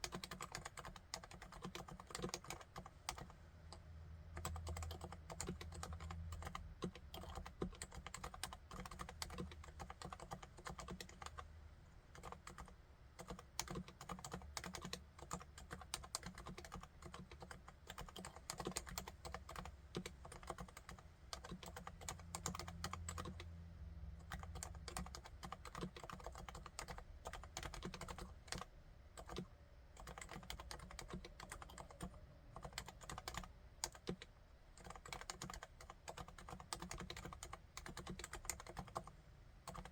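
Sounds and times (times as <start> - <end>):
soft keyboard typing: 0.0 - 11.5, 12.1 - 23.5, 24.2 - 39.9
faint low hum: 0.0 - 39.9.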